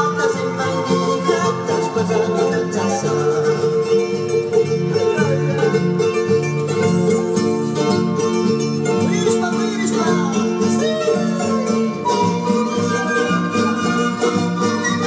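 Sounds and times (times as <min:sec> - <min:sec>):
bluegrass plucked string music: 0:00.0 - 0:15.0.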